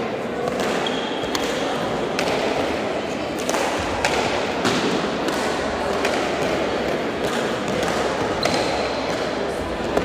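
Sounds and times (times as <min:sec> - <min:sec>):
background noise: 0:00.0 - 0:10.0.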